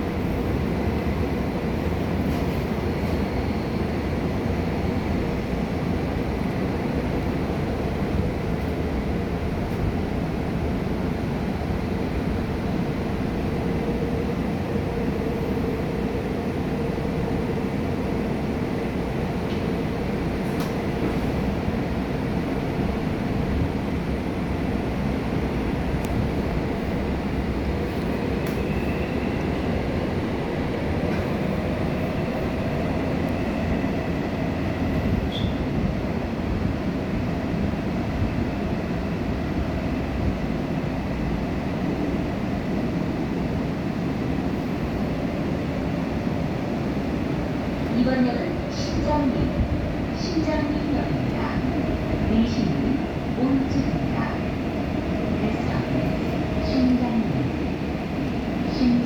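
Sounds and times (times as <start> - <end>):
subway train rumbling on track: 0.0 - 59.0.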